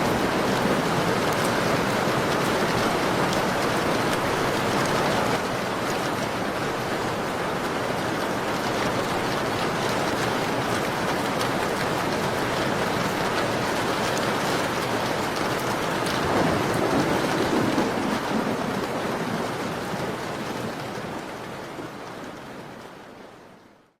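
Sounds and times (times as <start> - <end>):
rain pattering on a window: 0.0 - 24.0.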